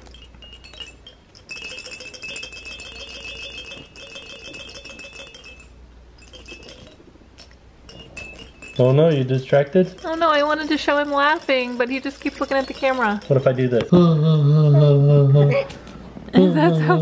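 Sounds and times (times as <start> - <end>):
jingle ball bell jingling: 0.0 - 13.9.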